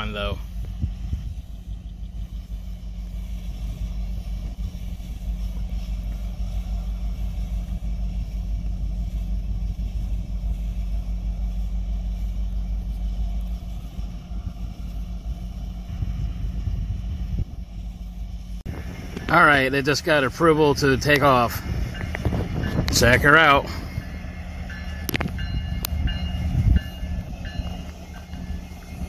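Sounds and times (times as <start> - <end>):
distant diesel locomotive idling: 0.0 - 29.0.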